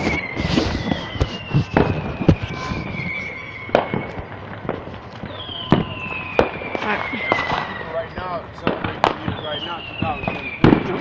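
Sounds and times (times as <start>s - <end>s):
firework bangs and cracks: 0.0s - 11.0s
whistling firework: 0.0s - 11.0s.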